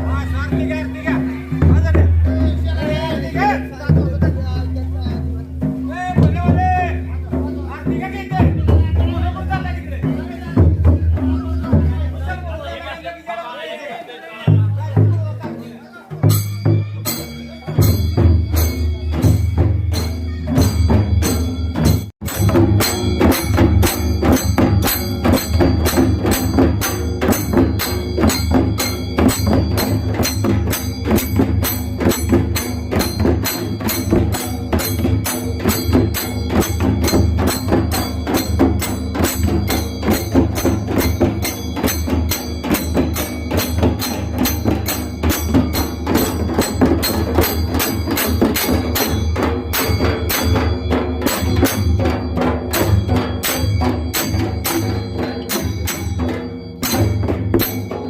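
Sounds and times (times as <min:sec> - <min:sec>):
fast percussion music: 0:00.0 - 0:13.4, 0:14.4 - 0:58.0.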